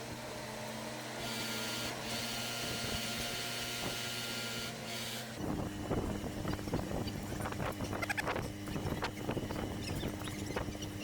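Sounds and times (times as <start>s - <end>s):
crane engine humming: 0.0s - 11.0s
high hydraulic whine: 1.2s - 11.0s.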